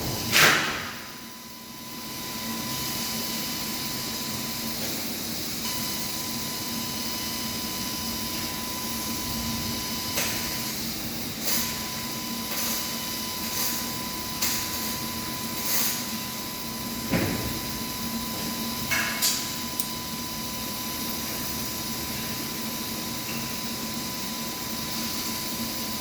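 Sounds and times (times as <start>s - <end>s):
laser cutter hiss and hum: 0.0s - 26.0s.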